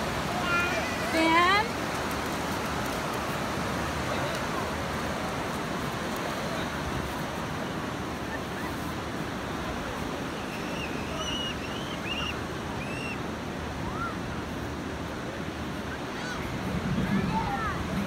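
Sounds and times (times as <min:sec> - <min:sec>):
pool water lapping and splashing: 0:00.0 - 0:18.0.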